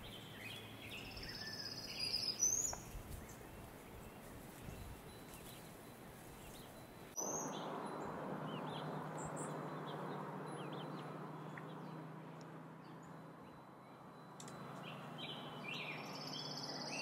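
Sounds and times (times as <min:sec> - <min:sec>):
bird chirps: 0:00.0 - 0:17.0
outdoor background hiss: 0:00.0 - 0:17.0.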